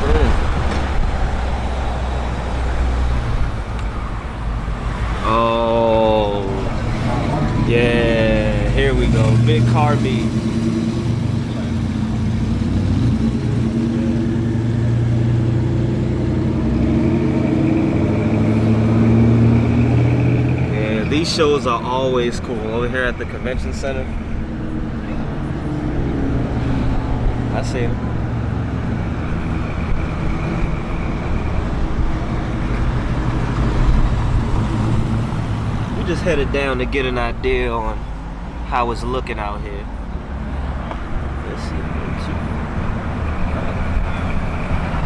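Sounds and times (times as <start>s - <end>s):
car engine running: 0.0s - 45.0s.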